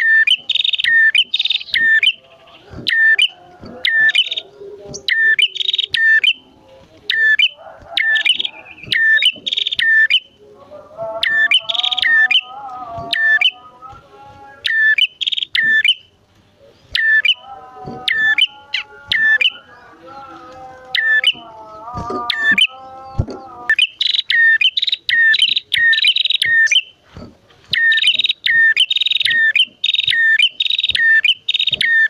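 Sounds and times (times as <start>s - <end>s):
bird warbling: 0.0s - 10.4s, 11.1s - 13.7s, 14.6s - 32.0s
birds chirping: 0.0s - 32.0s.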